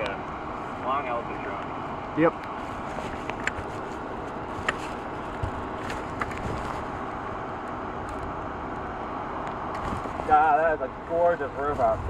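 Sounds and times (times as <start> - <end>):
steady outdoor rushing noise: 0.0 - 12.0.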